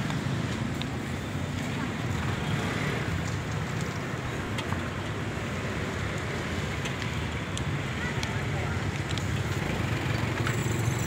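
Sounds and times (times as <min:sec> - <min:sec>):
street rumble: 0:00.0 - 0:11.0.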